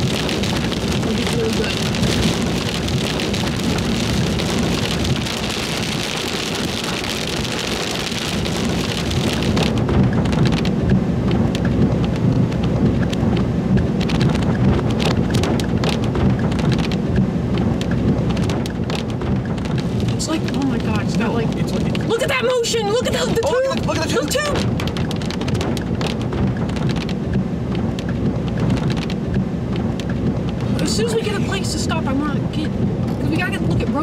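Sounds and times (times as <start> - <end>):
rain drumming on a vehicle: 0.0 - 34.0
raindrops tapping: 0.0 - 34.0
steady low rumble: 0.0 - 34.0.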